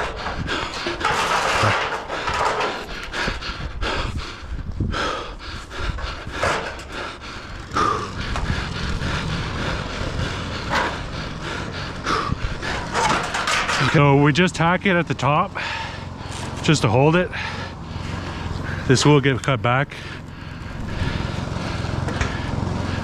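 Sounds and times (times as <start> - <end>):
person breathing hard: 0.0 - 13.8, 15.5 - 19.1, 19.9 - 23.0.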